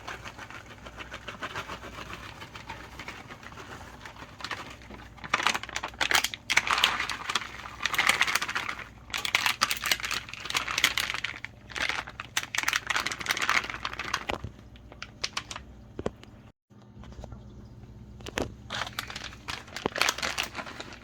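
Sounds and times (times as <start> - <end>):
crinkling and rustling: 0.0 - 16.4, 18.2 - 21.0.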